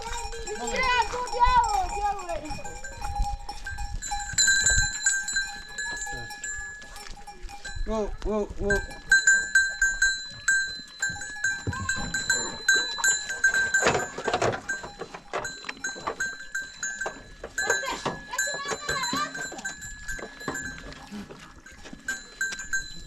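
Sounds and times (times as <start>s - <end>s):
livestock bells clanking: 0.0s - 23.0s.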